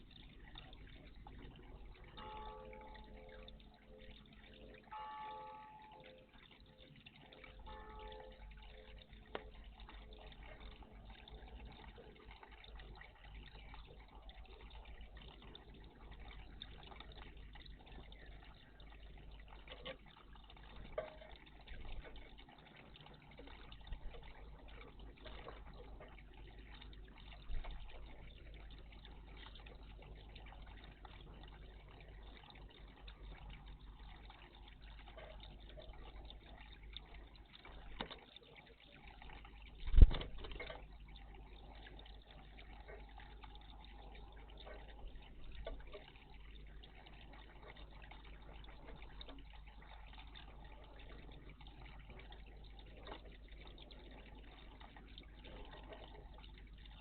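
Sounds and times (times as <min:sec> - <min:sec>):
water splashing and dripping: 0:00.0 - 0:57.0.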